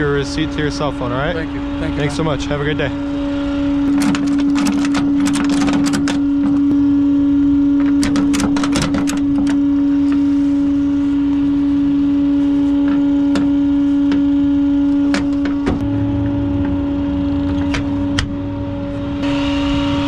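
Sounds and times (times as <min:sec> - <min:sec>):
truck engine hum: 0:00.0 - 0:20.0.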